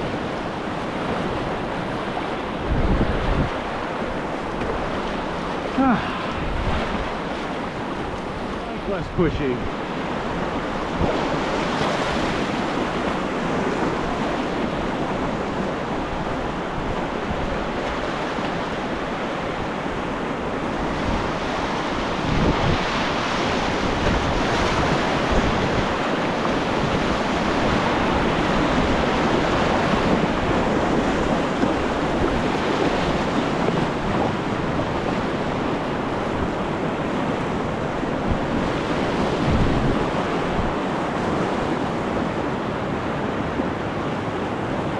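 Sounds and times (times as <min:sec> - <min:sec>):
whitewater rapids rushing: 0:00.0 - 0:44.9.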